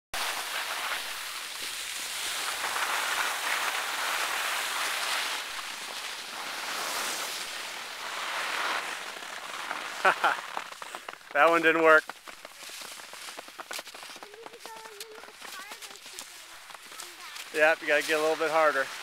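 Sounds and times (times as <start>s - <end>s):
skis scraping over snow: 0.2s - 19.0s.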